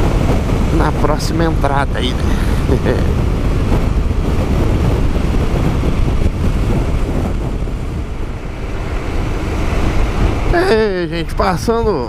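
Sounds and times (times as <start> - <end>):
motorcycle engine: 0.0 - 11.9
road noise: 0.0 - 12.0
wind noise on microphone: 0.0 - 12.0.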